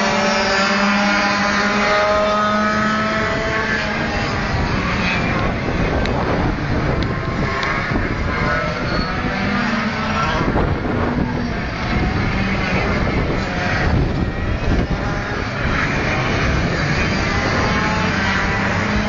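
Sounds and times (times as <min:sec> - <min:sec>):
kart engines whining: 0:00.0 - 0:19.0
wind rumbling on microphone: 0:00.0 - 0:19.0.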